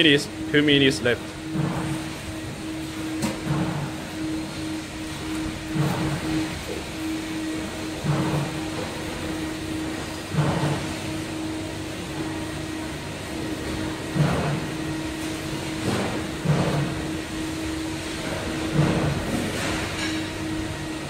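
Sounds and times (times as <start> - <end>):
pressure fryer mechanical hum: 0.0 - 21.0.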